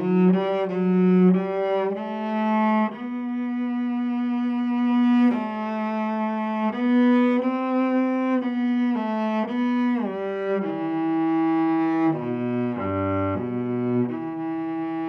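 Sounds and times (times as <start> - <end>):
bowed cello melody: 0.0 - 15.0.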